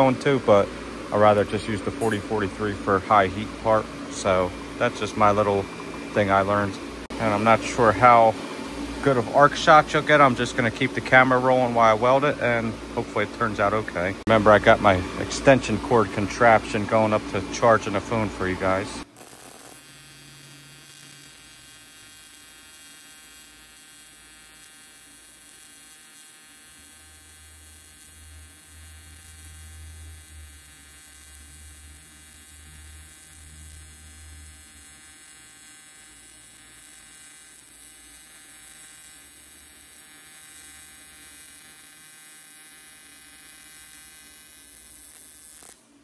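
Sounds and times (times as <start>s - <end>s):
welding arc buzzing: 0.0s - 46.0s.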